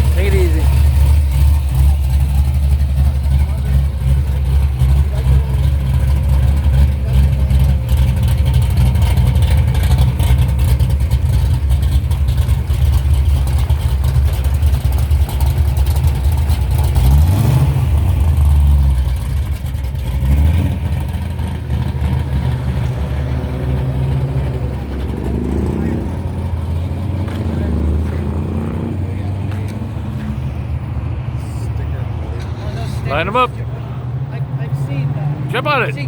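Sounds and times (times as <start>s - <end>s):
engine low rumble: 0.0s - 36.0s
engine revving: 0.0s - 36.0s.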